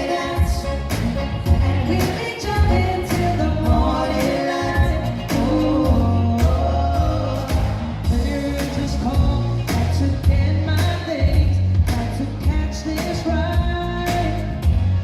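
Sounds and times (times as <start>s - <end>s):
band music with singer: 0.0s - 15.0s
heavy bass line: 0.0s - 15.0s
steady drum beat: 0.0s - 15.0s.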